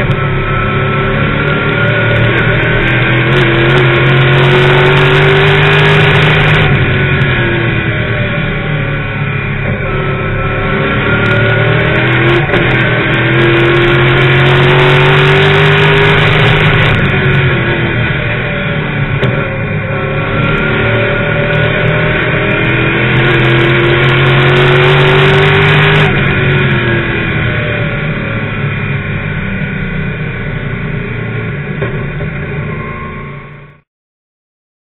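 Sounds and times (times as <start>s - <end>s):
race car engine revving: 0.0s - 33.0s.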